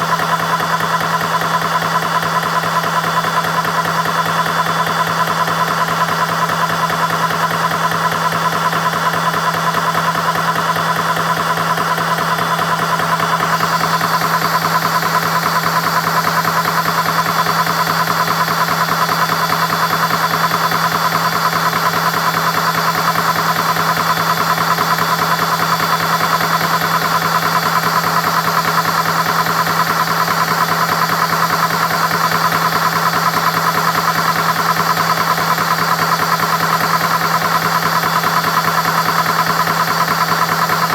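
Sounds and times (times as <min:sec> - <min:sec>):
air compressor pulsing hum: 0:00.0 - 0:40.9.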